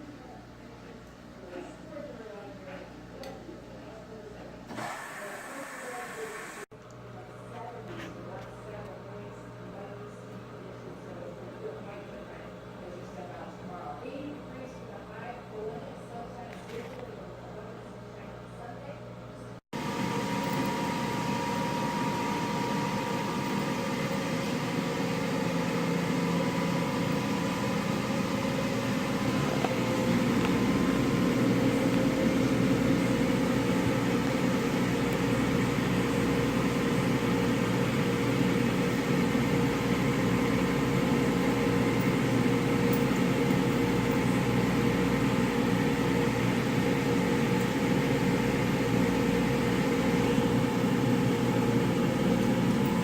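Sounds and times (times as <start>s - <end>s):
washing machine whirring: 0.0s - 16.5s, 17.2s - 53.0s.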